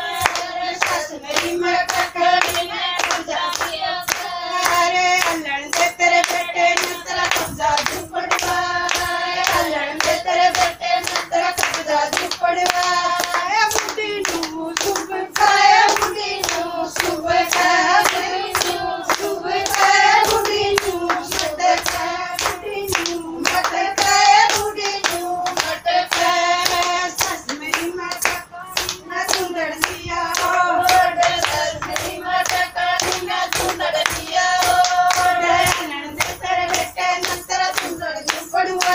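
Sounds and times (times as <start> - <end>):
hand clapping: 0.0 - 38.9
women singing in unison: 0.0 - 38.9.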